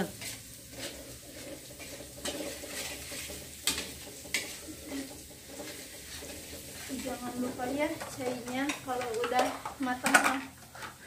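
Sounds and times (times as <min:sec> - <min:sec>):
paste sizzling in oil: 0:00.0 - 0:11.0
spatula scraping wok: 0:00.0 - 0:11.0.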